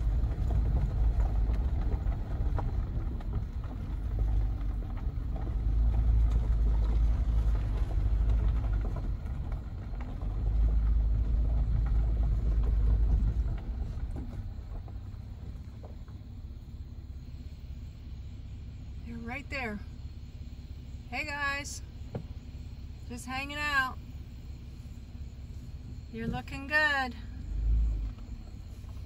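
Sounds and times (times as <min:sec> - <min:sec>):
car driving on rough road: 0:00.0 - 0:29.0.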